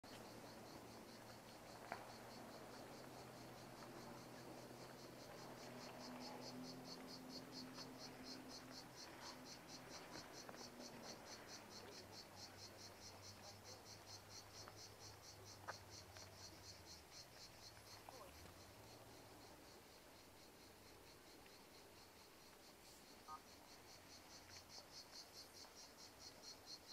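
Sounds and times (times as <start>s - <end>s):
insect chirping: 0.1s - 26.9s.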